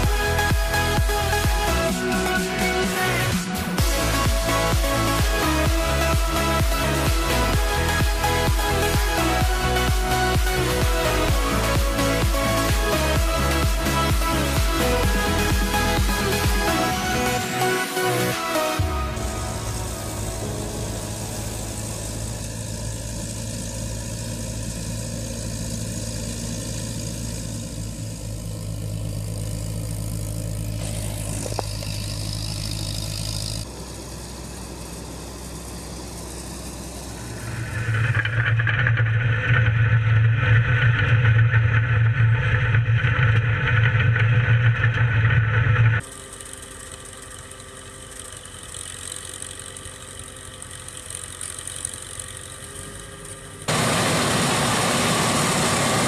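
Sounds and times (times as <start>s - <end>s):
heavy farm machinery engines: 0.0s - 56.0s.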